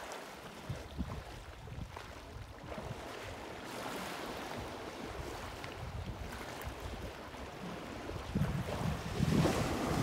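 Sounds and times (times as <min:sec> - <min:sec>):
water sloshing and splashing: 0:00.0 - 0:10.0
wind buffeting microphone: 0:00.6 - 0:03.2, 0:04.5 - 0:10.0.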